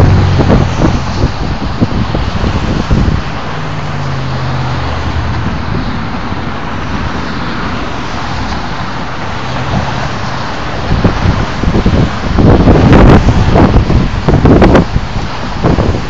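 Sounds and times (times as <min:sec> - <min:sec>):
low engine hum: 0:00.0 - 0:16.0
road traffic noise: 0:00.0 - 0:16.0
wind buffeting microphone: 0:00.0 - 0:16.0.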